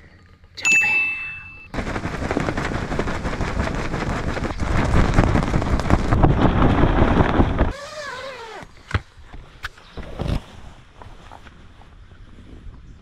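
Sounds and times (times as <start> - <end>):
wind blowing across microphone: 1.7 - 7.9, 8.6 - 13.0.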